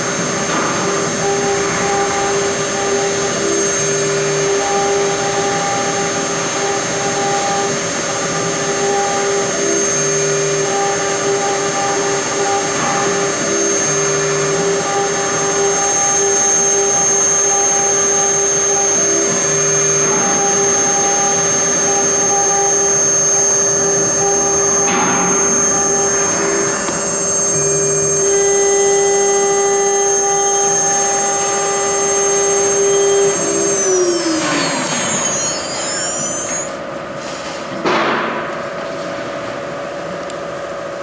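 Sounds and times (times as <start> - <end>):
engraving spindle high whine: 0.0 - 37.1
low machine hums: 0.0 - 37.2.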